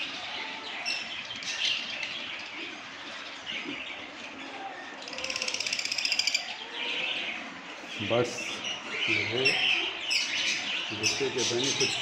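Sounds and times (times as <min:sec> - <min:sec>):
lovebirds chirping and chattering: 0:00.0 - 0:12.0.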